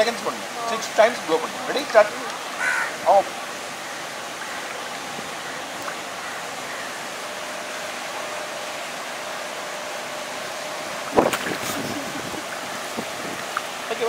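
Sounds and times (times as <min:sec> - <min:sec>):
faint steady hum: 0:00.0 - 0:14.0
pool water rushing: 0:00.0 - 0:14.0.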